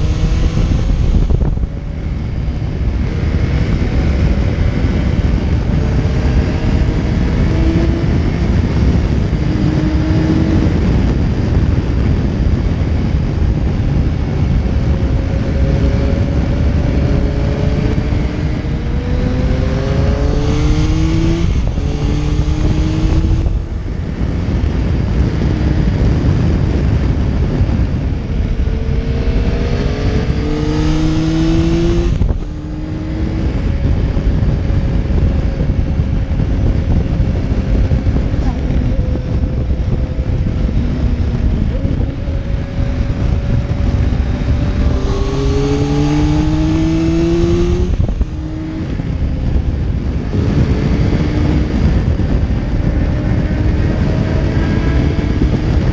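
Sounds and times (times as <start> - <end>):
motorcycle engine accelerating: 0.0 - 55.9
wind noise: 0.0 - 55.9.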